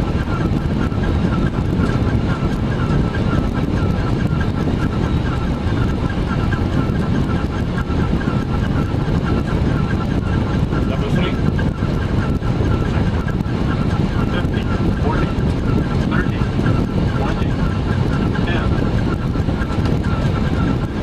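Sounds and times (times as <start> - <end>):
aircraft cockpit engine rumble: 0.0 - 21.0.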